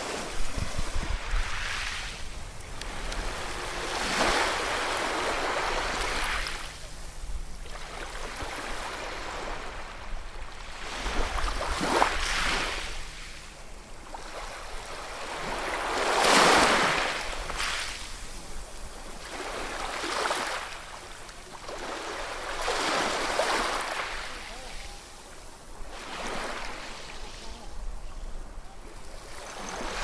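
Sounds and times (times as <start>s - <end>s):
ocean waves breaking on shore: 0.0s - 30.0s.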